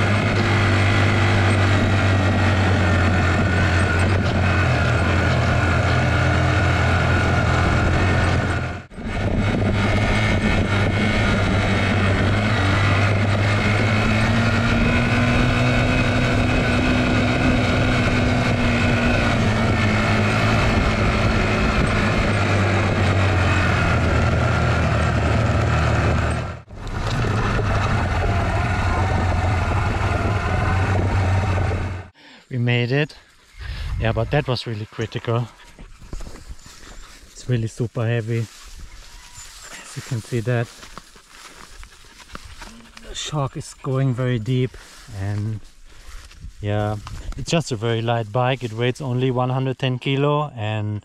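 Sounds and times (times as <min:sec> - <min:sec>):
motorcycle engine under load: 0:00.0 - 0:32.2, 0:35.2 - 0:49.7.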